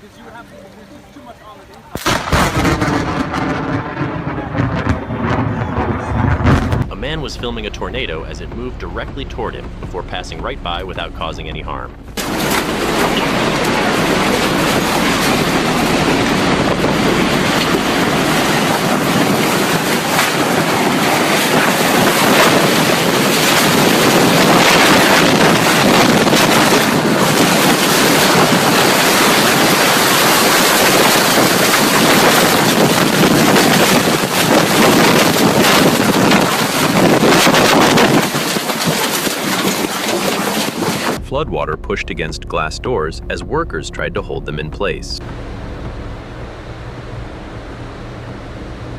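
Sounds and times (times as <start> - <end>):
strong wind blasting microphone: 2.0 - 48.9.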